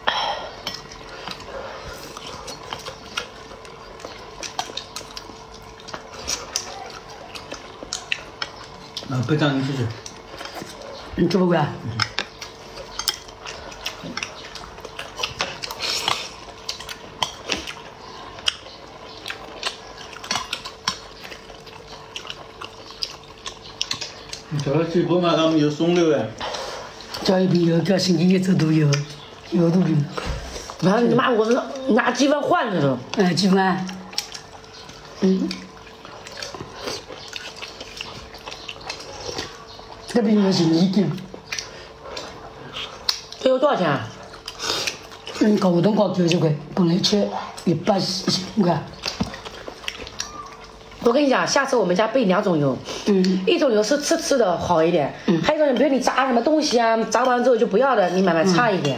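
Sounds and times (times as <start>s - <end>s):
slurping and chewing: 0.0s - 53.5s
faint steady hum: 0.0s - 58.9s.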